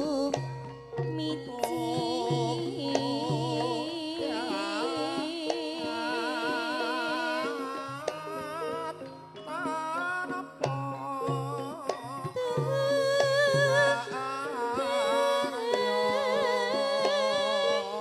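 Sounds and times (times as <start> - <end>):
gamelan ensemble playing: 0.0 - 18.0
woman singing: 0.0 - 18.0.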